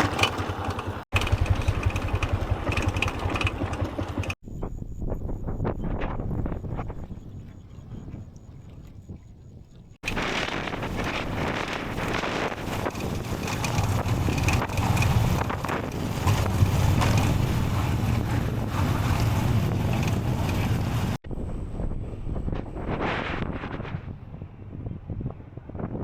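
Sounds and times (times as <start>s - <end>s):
wind buffeting microphone: 1.1s - 26.0s.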